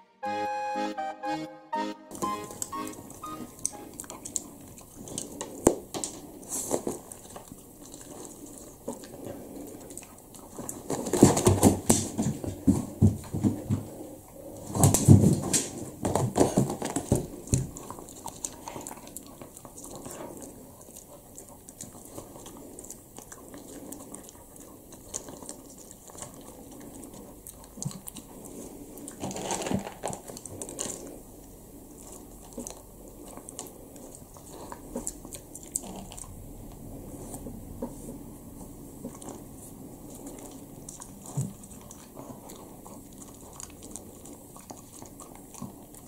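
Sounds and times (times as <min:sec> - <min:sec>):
dog crunching kibble: 0:03.6 - 0:46.0.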